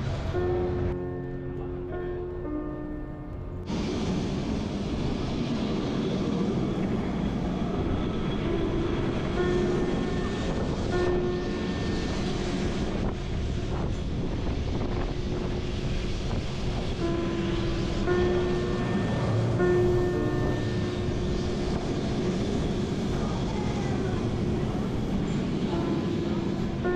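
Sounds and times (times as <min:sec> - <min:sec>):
wind rushing on microphone: 0:03.7 - 0:26.8.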